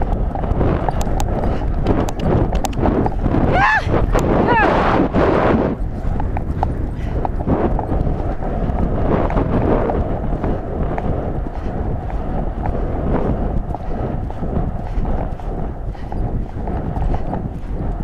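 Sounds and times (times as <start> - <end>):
horse hoofbeats on grass: 0.0 - 18.0
wind rushing over microphone: 0.0 - 18.0.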